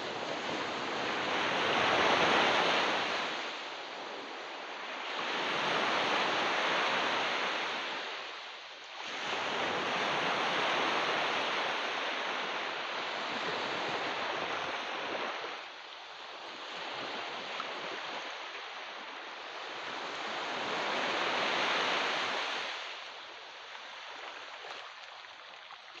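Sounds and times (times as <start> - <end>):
ocean waves washing onto beach: 0.0 - 26.0.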